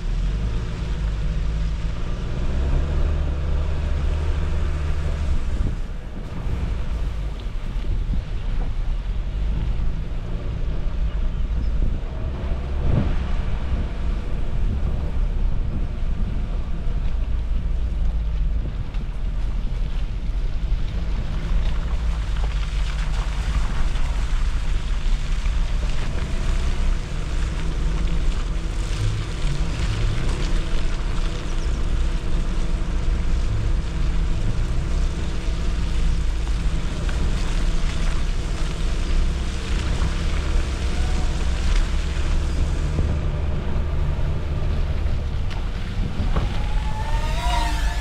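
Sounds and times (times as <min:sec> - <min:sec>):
engine and tyre rumble: 0:00.0 - 0:48.0
wind noise on microphone: 0:00.0 - 0:48.0.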